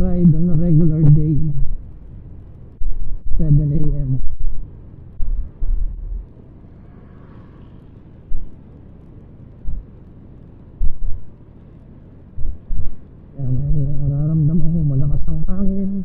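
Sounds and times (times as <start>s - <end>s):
wind buffeting microphone: 0.0s - 6.7s, 7.8s - 16.0s
steady low hiss: 0.0s - 16.0s.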